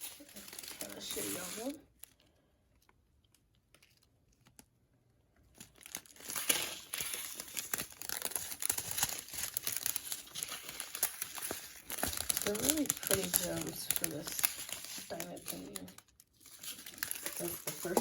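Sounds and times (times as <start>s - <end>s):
plastic packs crinkling: 0.0s - 4.8s, 5.4s - 18.0s.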